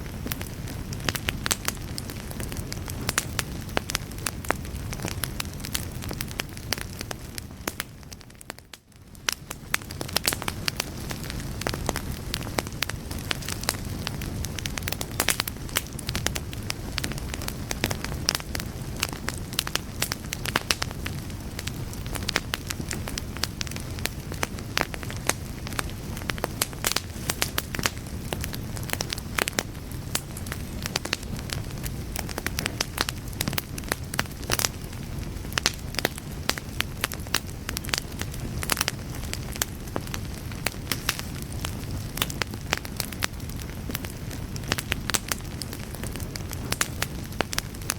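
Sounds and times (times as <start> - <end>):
low rumble of flame: 0.0 - 47.9
wood fire crackling and popping: 0.0 - 47.9.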